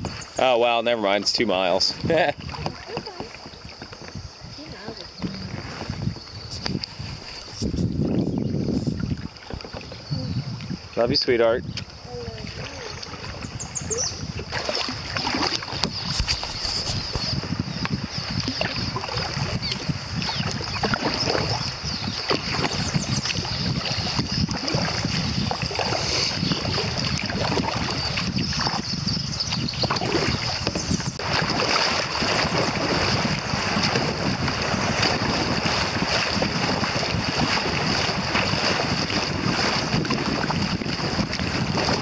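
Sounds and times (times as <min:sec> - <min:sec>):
water lapping at kayak hull: 0:00.0 - 0:42.0
wind on microphone: 0:00.0 - 0:42.0.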